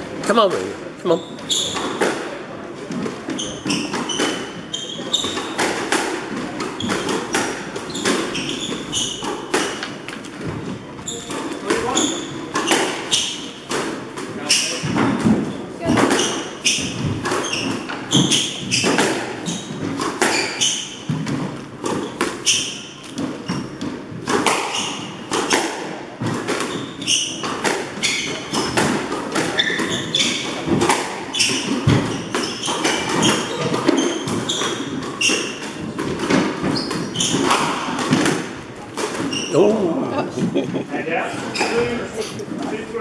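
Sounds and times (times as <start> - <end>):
shoes squeaking: 0.2 - 13.7, 14.4 - 43.0
squash ball smacking: 1.7 - 39.6.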